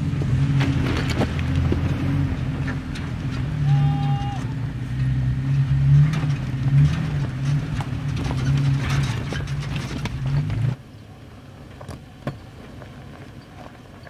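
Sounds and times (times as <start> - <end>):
tyres crackling over rocks: 0.0 - 4.6, 5.9 - 10.8, 11.4 - 14.0
pickup engine running at low revs: 0.0 - 14.0.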